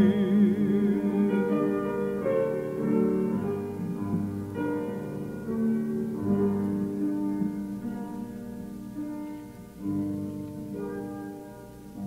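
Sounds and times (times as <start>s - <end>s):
piano playing slow hymn chords: 0.0s - 12.0s.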